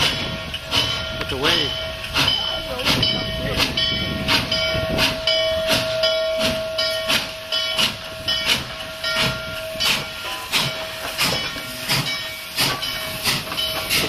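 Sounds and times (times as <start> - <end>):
hissing steam: 0.0 - 14.0
steam locomotive passing: 0.0 - 14.0
bell ringing: 1.0 - 14.0.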